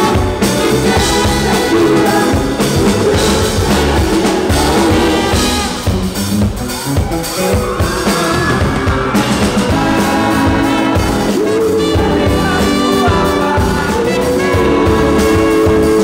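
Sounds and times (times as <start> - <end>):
pop-jazz band playing live: 0.0 - 16.0.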